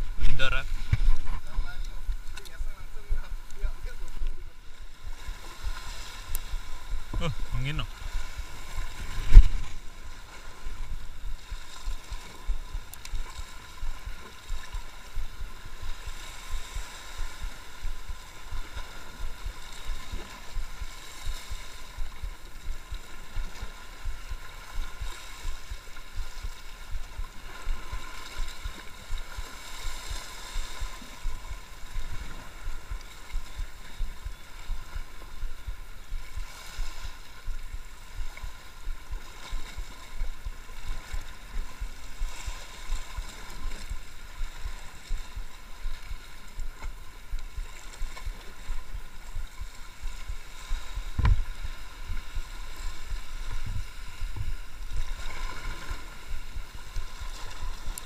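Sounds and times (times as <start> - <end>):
sea waves washing against rocks: 0.0 - 58.0
wind buffeting microphone: 0.0 - 58.0.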